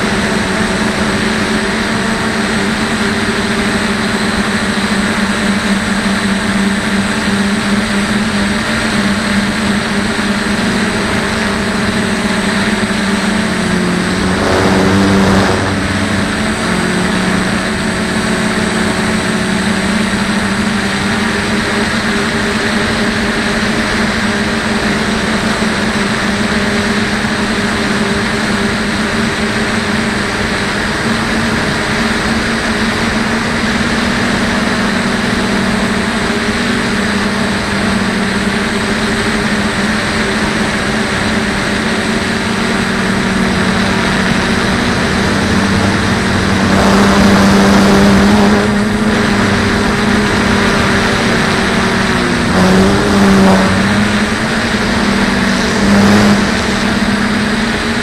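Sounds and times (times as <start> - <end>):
drone propellers buzzing: 0.0 - 58.0.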